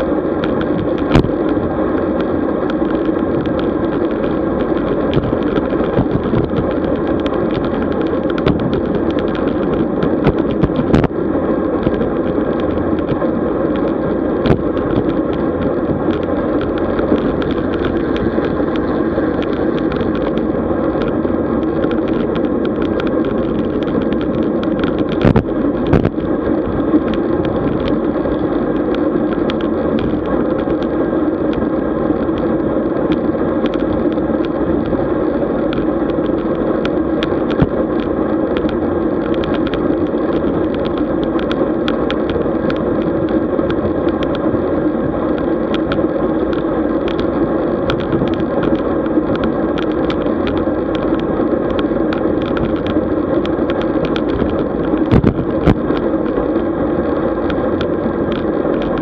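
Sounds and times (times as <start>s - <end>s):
bike tyres and wind rumble: 0.0s - 59.0s.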